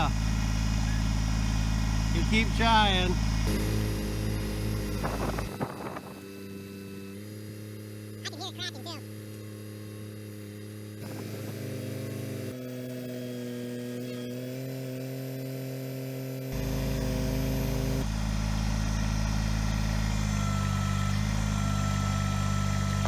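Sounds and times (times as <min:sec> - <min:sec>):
tractor diesel engine running: 0:00.0 - 0:13.2, 0:16.5 - 0:23.0.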